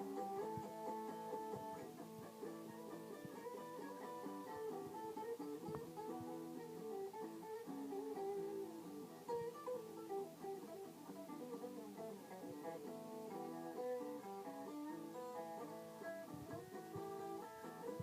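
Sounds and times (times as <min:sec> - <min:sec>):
guitar plucked and strummed: 0:00.0 - 0:18.0.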